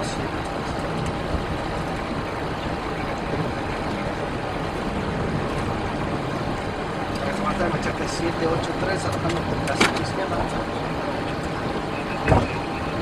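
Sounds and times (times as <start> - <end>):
aircraft cockpit rush and hum: 0.0 - 13.0.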